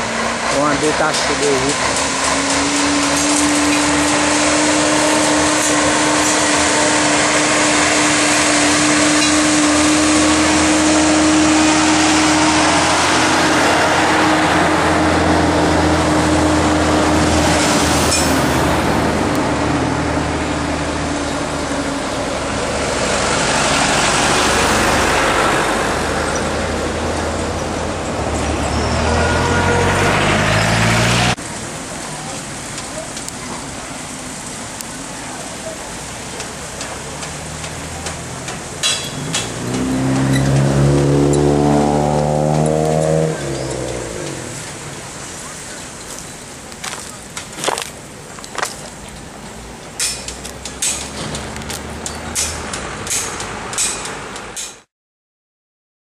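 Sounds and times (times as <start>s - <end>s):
vehicle accelerating: 0.0s - 33.4s, 35.3s - 47.9s, 49.5s - 54.8s
vehicle engines humming: 0.0s - 54.9s.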